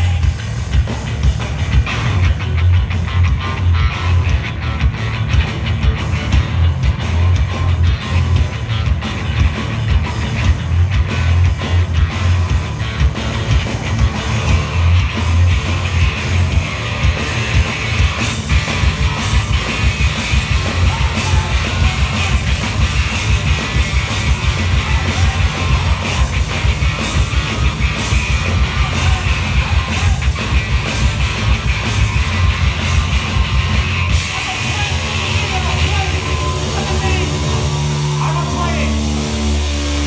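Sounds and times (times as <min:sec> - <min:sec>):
live rock band playing: 0:00.0 - 0:40.0
rapid drum beat: 0:00.0 - 0:40.0.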